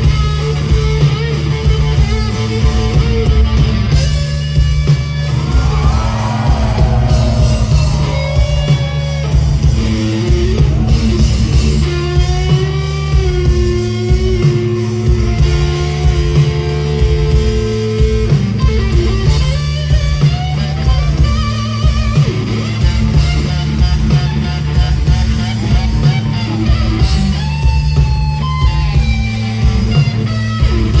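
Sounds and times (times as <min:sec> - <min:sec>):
bass guitar: 0:00.0 - 0:31.0
steady drum beat: 0:00.0 - 0:31.0.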